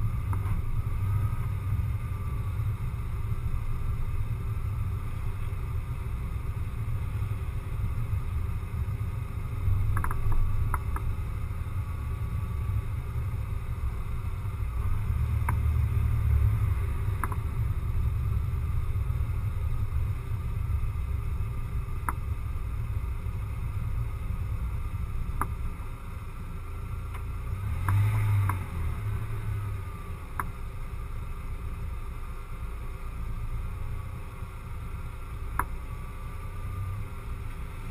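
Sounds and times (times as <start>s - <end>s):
car road and engine rumble: 0.0s - 37.9s.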